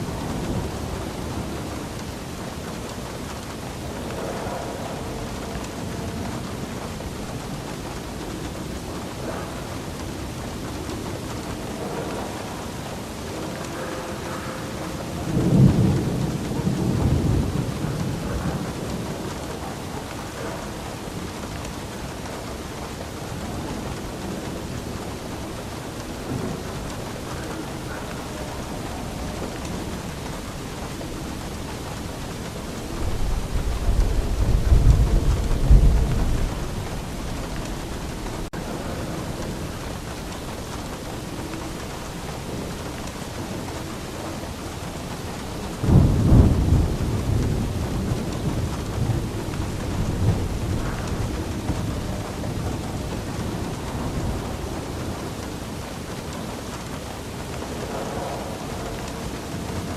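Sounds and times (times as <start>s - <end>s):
steady rain falling: 0.0s - 59.9s
thunder rumbling: 0.0s - 59.9s.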